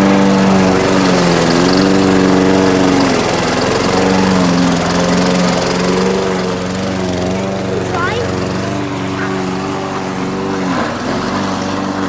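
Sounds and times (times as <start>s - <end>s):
lawn mower cutting grass: 0.0s - 12.0s.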